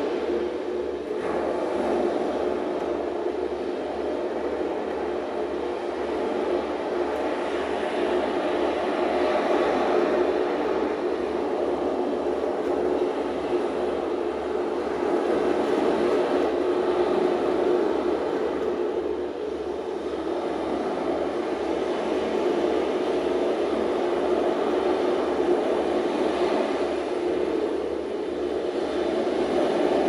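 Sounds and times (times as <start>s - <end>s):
waves: 0.0s - 30.0s
wind: 0.0s - 30.0s.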